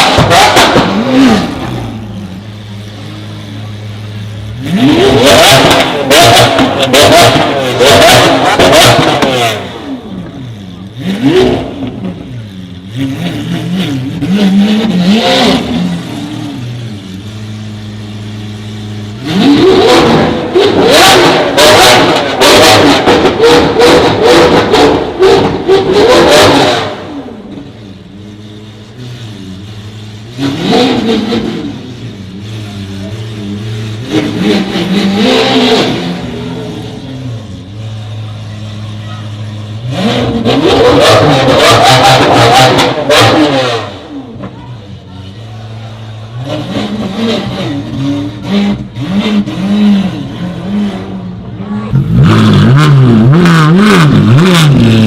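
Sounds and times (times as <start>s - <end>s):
car engine revving and idling: 0.0s - 55.0s.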